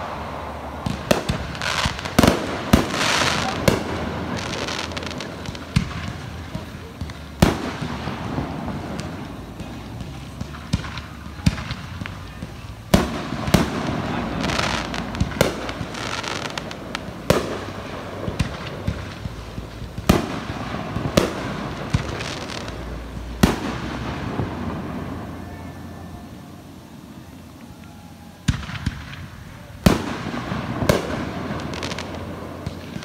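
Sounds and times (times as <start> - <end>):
fireworks bangs: 0.0 - 33.0
fireworks crackling: 0.0 - 33.0.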